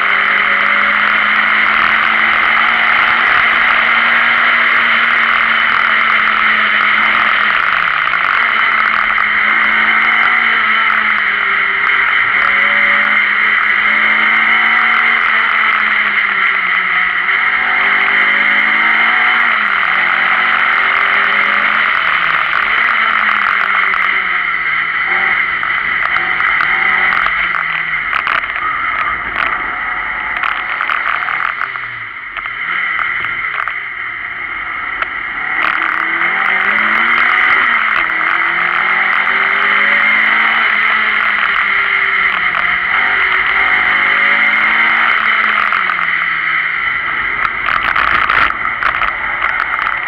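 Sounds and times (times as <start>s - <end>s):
car engine at high revs: 0.0s - 50.0s
rush of noise: 0.0s - 50.0s.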